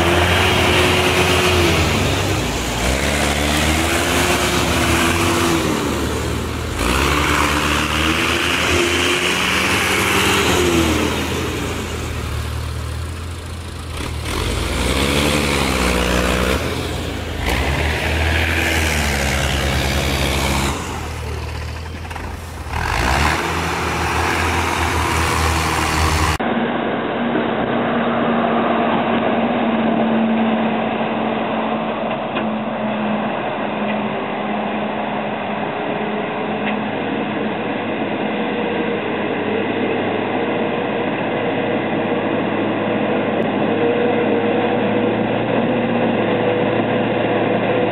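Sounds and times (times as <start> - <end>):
tractor diesel engine labouring: 0.0 - 47.9
truck engine droning: 0.0 - 47.9.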